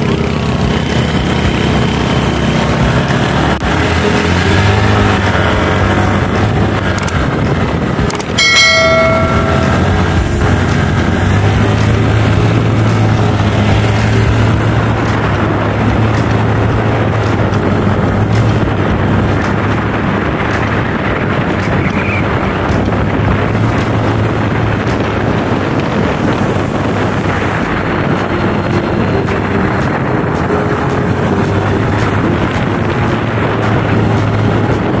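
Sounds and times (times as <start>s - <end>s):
scooter engine drone: 0.0s - 35.0s
wind noise on microphone: 0.0s - 35.0s.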